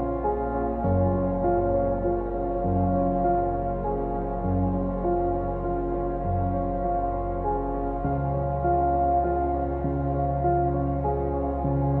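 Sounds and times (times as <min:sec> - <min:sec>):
soft ambient music: 0:00.0 - 0:12.0.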